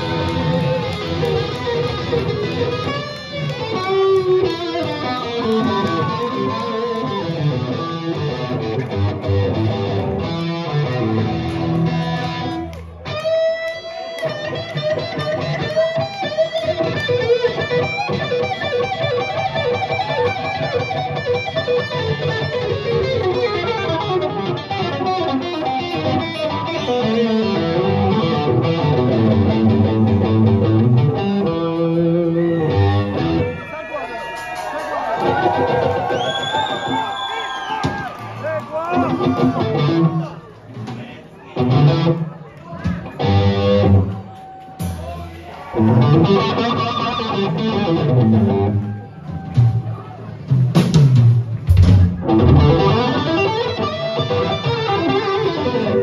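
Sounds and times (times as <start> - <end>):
electric guitar: 0.0 - 33.6, 38.9 - 45.0, 45.6 - 49.8, 50.7 - 56.0
live rock band playing: 0.0 - 33.6, 39.0 - 40.2, 41.6 - 56.0.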